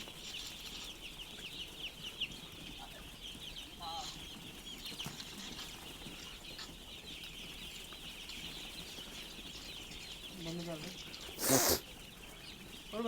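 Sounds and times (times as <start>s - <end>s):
chickens chirping and clucking: 0.0s - 13.0s.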